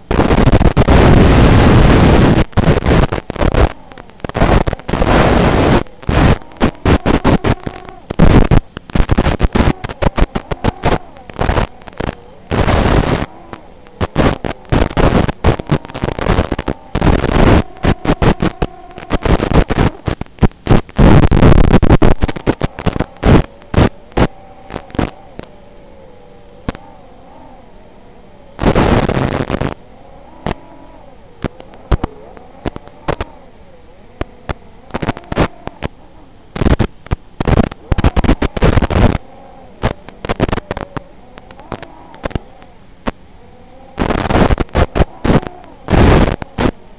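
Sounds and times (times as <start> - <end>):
crackling radio static: 0.0 - 46.9.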